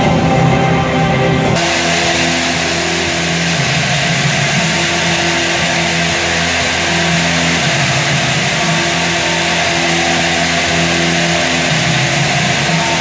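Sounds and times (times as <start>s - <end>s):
low brass long notes: 0.0s - 13.0s
stadium crowd cheering: 0.0s - 13.0s
cowbells clanging: 1.6s - 13.0s.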